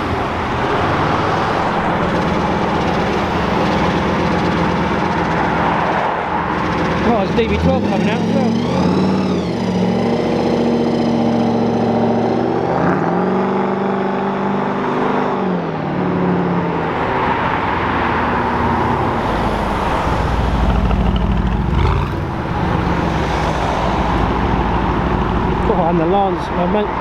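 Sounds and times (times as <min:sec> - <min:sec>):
car engines pulling away: 0:00.0 - 0:27.0.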